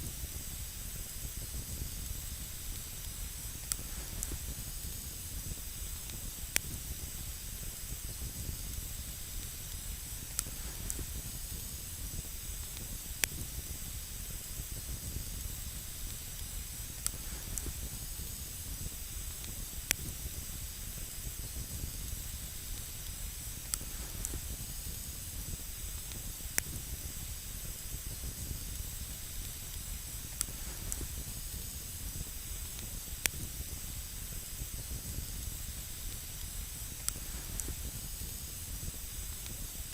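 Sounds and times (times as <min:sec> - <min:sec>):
campfire burning: 0:00.0 - 0:39.9
fire crackles and pops: 0:00.0 - 0:39.9.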